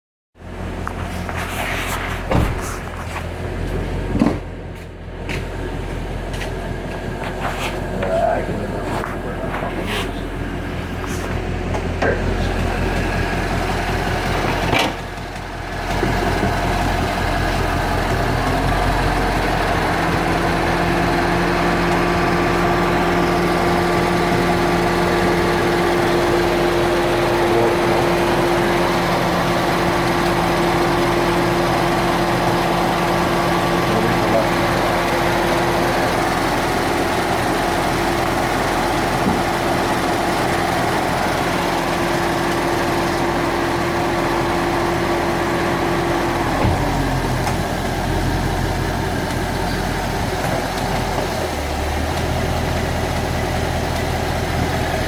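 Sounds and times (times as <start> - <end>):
car engine idling: 0.4 - 55.0
engine ticking: 2.5 - 55.0.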